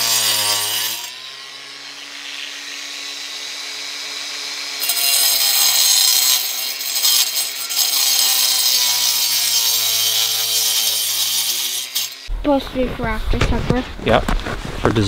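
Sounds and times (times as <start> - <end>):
angle grinder motor whining: 0.0 - 12.3
blade grinding brick: 0.0 - 12.3.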